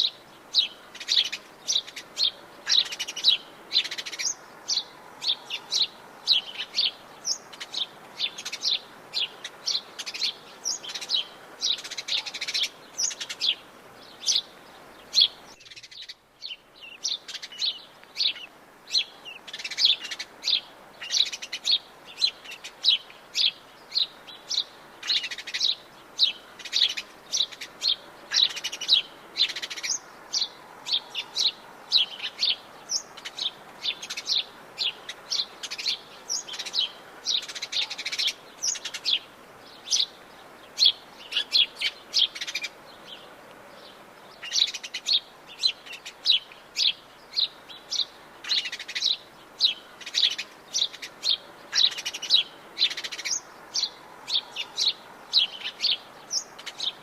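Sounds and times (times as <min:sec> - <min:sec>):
faint forest background hiss: 0:00.0 - 0:57.0
songbirds chirping and trilling: 0:00.0 - 0:57.0.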